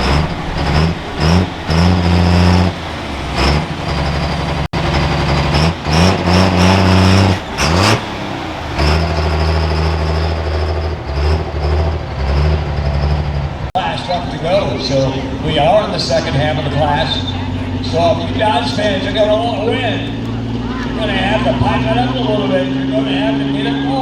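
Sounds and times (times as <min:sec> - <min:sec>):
diesel truck engine surging: 0:00.0 - 0:24.0.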